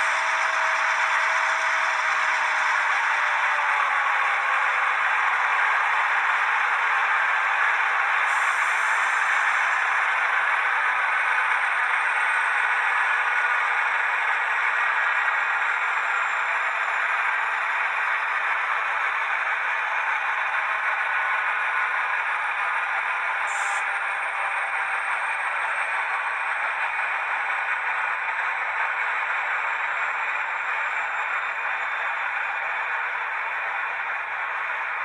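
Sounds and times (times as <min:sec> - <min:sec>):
diesel engine through small speaker: 0:00.0 - 0:35.0.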